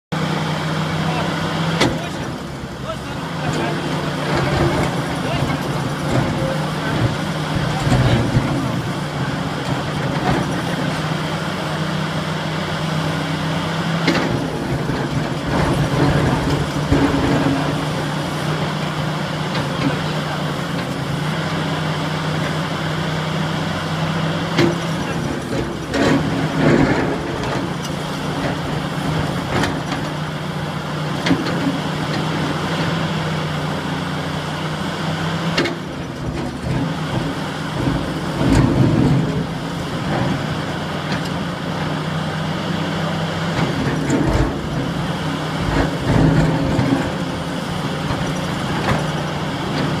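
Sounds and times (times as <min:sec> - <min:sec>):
excavator diesel engine: 0:00.1 - 0:50.0.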